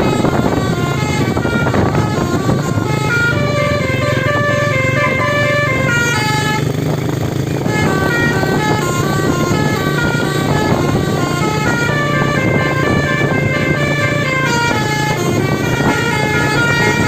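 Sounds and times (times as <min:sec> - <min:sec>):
bus air horns playing notes: 0:00.0 - 0:17.0
low engine hum: 0:00.0 - 0:17.0.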